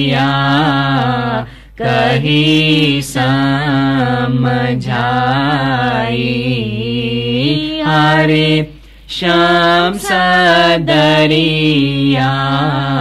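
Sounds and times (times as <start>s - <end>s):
woman chanting: 0.0s - 13.0s.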